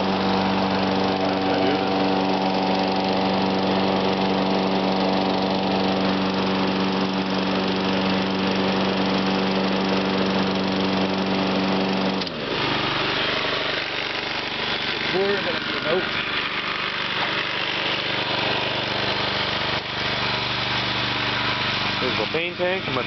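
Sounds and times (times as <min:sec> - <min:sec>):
riding mower engine running: 0:00.0 - 0:23.0.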